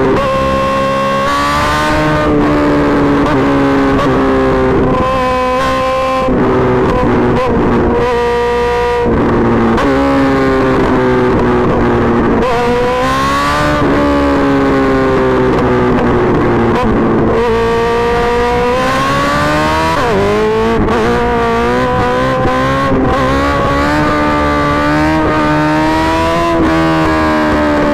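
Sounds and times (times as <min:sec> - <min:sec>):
engine revving hard: 0:00.0 - 0:27.9.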